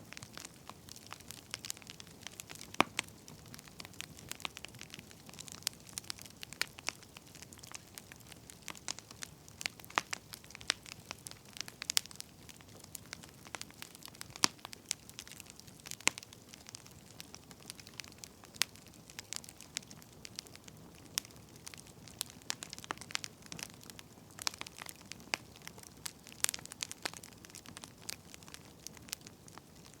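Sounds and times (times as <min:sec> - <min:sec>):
faint low hiss: 0:00.0 - 0:30.0
wood fire crackling: 0:00.0 - 0:30.0.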